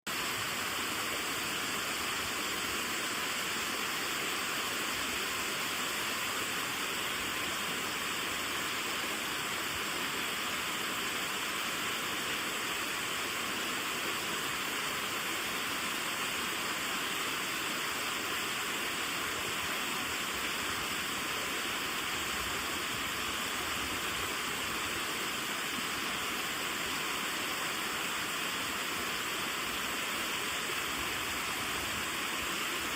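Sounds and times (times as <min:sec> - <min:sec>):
waterfall pouring and splashing: 0:00.1 - 0:32.9.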